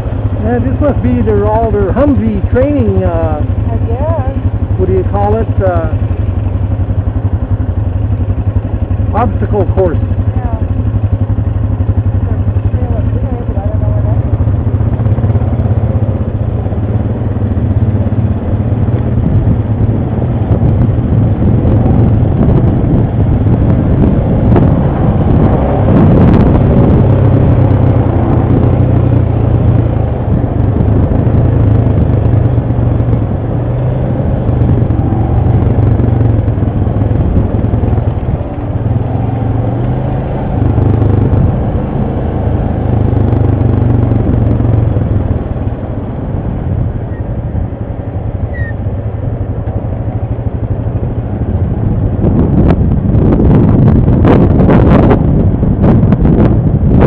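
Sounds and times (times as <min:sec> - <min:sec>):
quad bike engine droning: 0:00.0 - 0:57.0.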